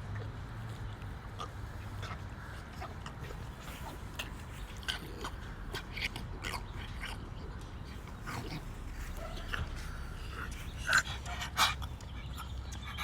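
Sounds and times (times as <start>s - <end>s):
steady low hum: 0.0s - 13.0s
dog making play sounds: 1.4s - 13.0s.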